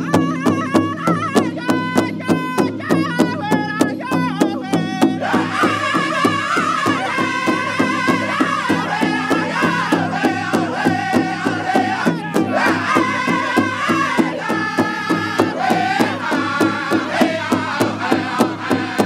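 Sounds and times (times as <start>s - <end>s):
big hide drum beating: 0.0s - 19.0s
group singing high strained vocals: 0.0s - 19.0s.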